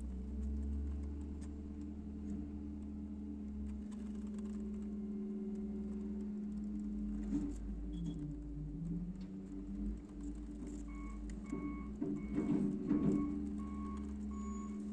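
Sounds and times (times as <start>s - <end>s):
garbage truck engine and hydraulics: 0.0s - 14.9s
wheel loader working: 0.0s - 14.9s.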